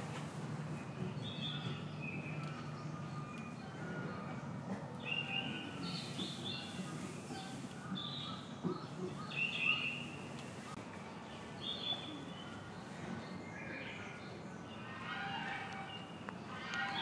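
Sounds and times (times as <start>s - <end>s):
low background murmur: 0.0s - 17.0s
birds chirping: 0.6s - 17.0s.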